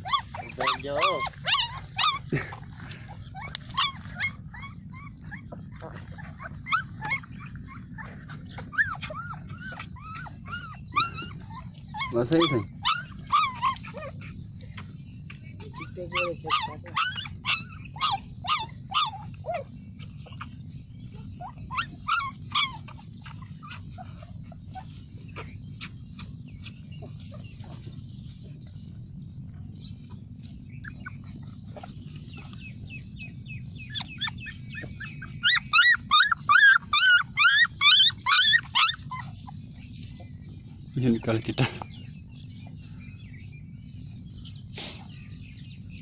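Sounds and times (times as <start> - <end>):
puppies whimpering and yipping: 0.0 - 46.0
steady low hum: 0.0 - 46.0.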